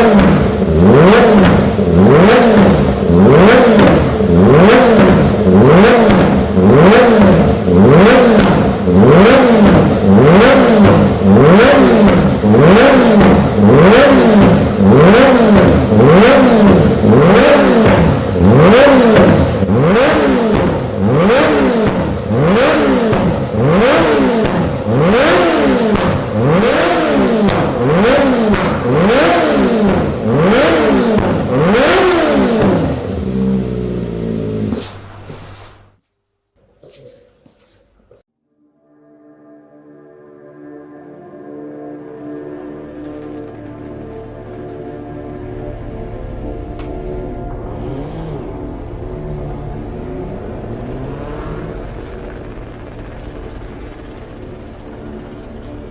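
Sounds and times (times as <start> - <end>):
motorcycle engine revving: 0.0 - 36.0, 42.0 - 55.9.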